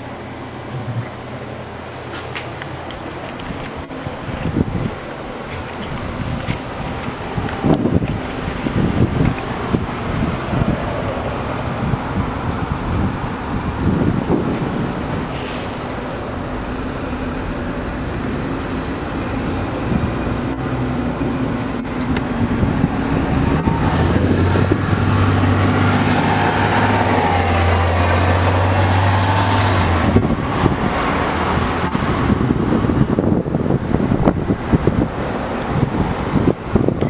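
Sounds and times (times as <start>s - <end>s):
passing vehicle engine hum: 0.0s - 37.0s
traffic: 0.0s - 37.0s
wind-driven rain: 0.0s - 37.0s.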